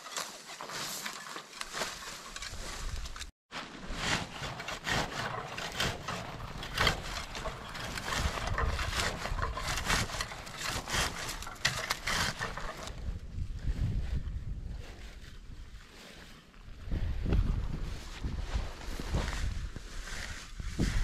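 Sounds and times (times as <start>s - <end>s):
rustling in low vegetation: 0.0s - 21.0s.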